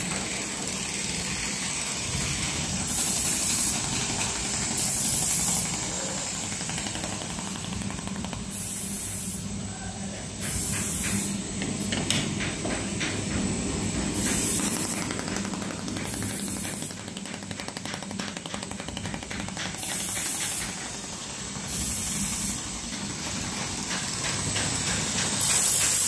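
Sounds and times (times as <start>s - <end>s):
welding machine hissing: 0.0s - 26.0s.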